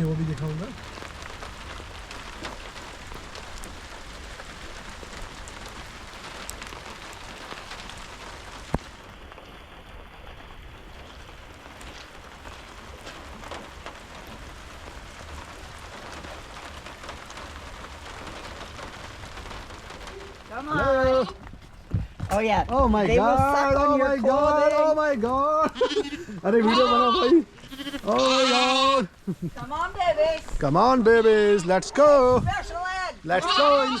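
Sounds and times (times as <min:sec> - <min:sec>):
heavy rain falling: 0:00.0 - 0:34.0
raindrops ticking: 0:00.0 - 0:34.0.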